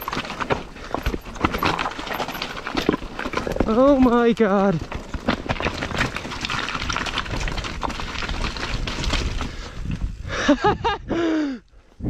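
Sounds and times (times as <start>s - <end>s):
bike knocking and rattling: 0.0s - 10.6s
bike tyres rolling on dirt: 0.0s - 12.0s.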